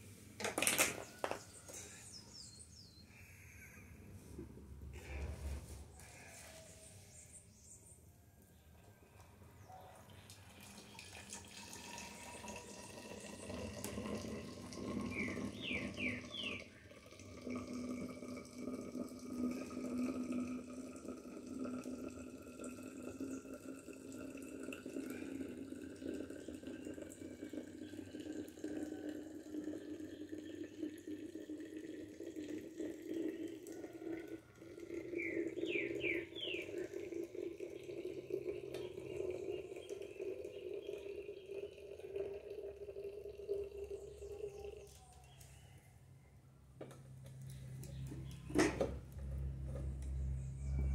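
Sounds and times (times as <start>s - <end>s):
coffee pouring into flask: 0.0s - 3.6s, 9.2s - 45.5s, 46.8s - 50.9s.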